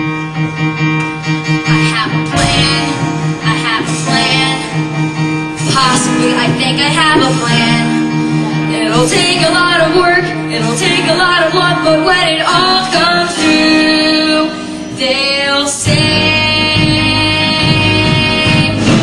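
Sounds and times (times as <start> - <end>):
instrumental accompaniment: 0.0 - 19.0.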